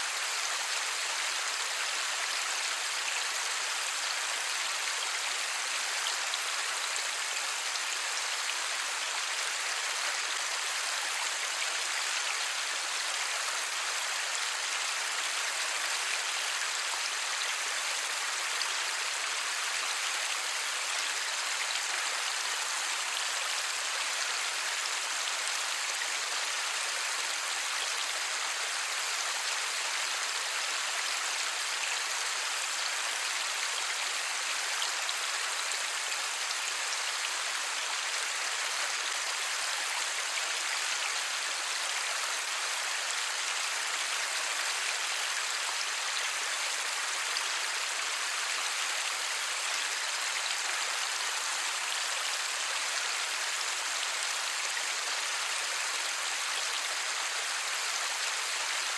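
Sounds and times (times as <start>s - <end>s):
light rain falling: 0.0s - 58.9s.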